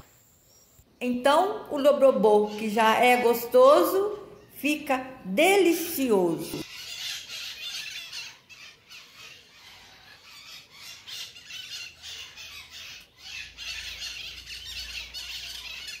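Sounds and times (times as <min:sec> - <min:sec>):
birds chirping and squawking: 0:00.5 - 0:16.0.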